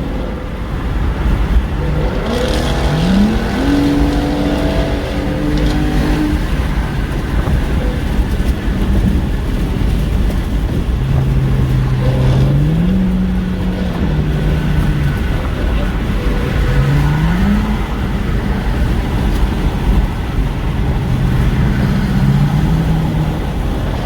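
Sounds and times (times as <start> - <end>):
car engine accelerating: 0.0 - 24.0
wind and road noise: 0.0 - 24.0.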